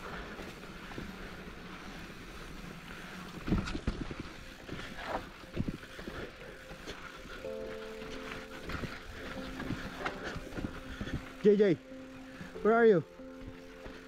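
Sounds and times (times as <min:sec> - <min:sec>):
bike knocking and rattling: 0:00.0 - 0:11.5.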